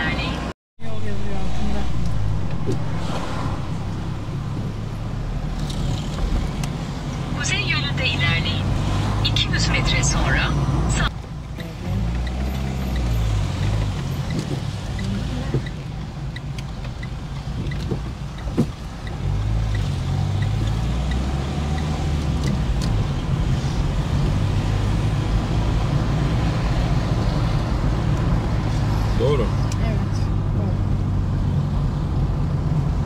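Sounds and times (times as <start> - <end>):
car interior engine and tyre rumble: 0.0 - 33.0.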